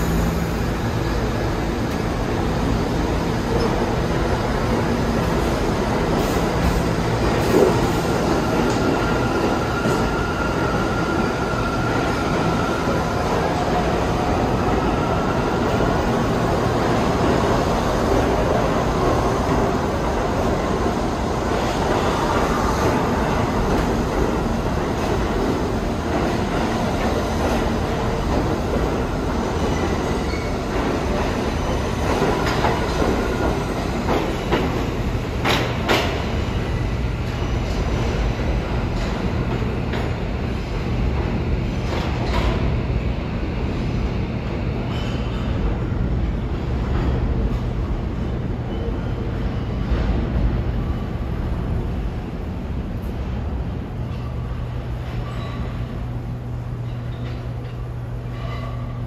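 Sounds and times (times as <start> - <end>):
subway wheels clattering over rails: 0.0 - 59.0.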